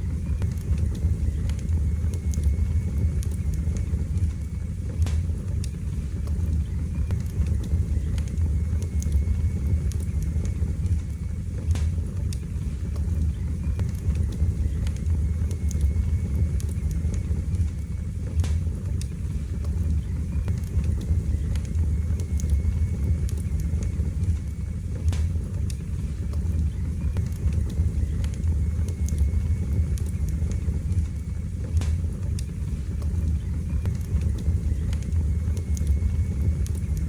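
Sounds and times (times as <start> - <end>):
fire flames rumbling: 0.0 - 37.0
wood fire crackles and pops: 0.0 - 37.0.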